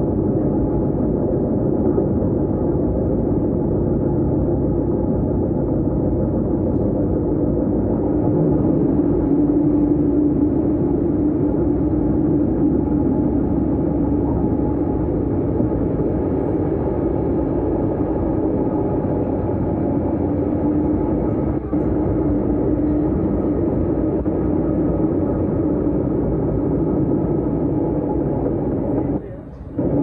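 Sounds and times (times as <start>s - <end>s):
low hum: 0.0s - 30.0s
train rumbling on rails: 0.0s - 30.0s.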